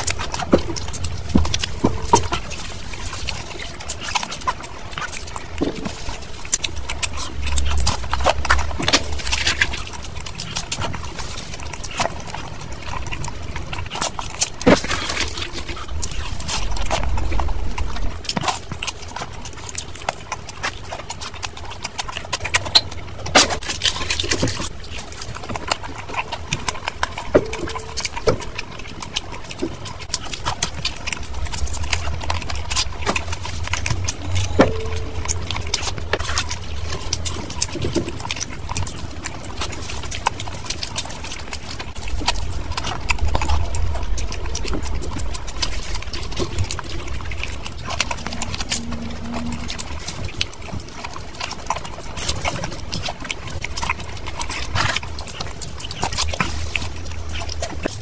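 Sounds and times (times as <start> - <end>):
close chewing with mouth clicks: 0.0 - 58.0.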